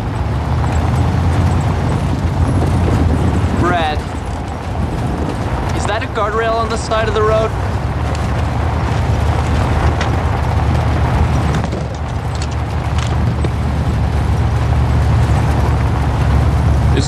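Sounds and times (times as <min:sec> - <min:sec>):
faint rattles and clicks: 0:00.0 - 0:17.0
vehicle engine and road rumble: 0:00.0 - 0:17.0.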